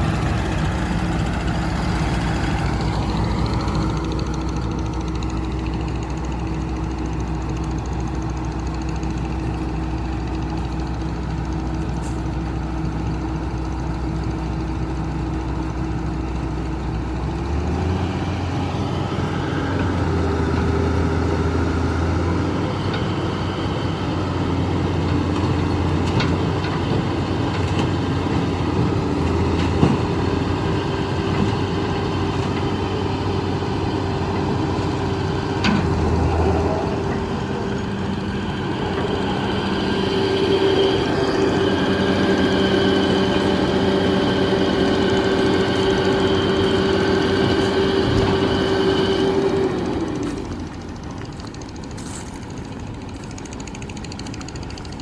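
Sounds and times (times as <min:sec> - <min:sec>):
heavy diesel engine: 0:00.0 - 0:55.0.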